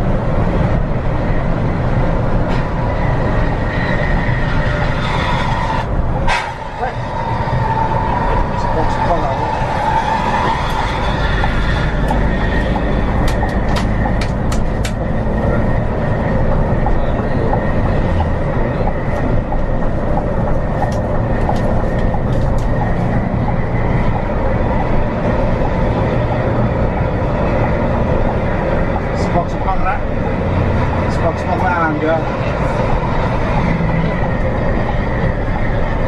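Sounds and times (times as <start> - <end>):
bus engine and road drone: 0.0 - 36.0.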